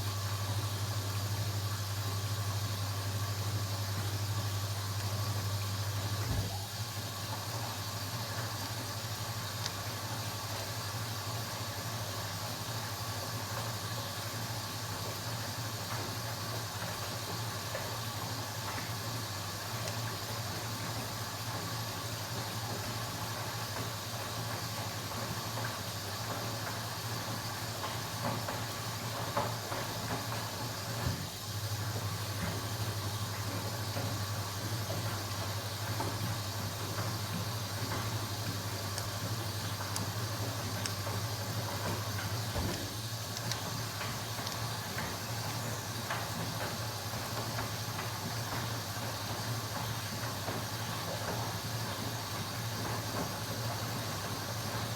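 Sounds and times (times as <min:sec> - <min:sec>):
washing machine running: 0:00.0 - 0:54.9.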